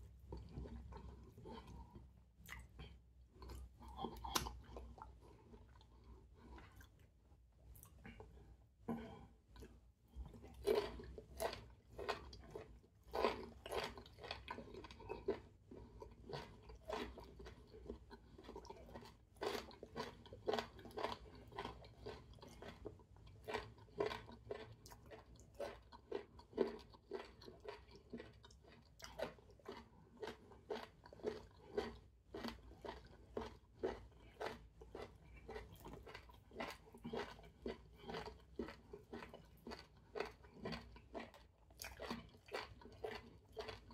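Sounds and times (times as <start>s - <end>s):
man chewing food: 0.0s - 43.9s.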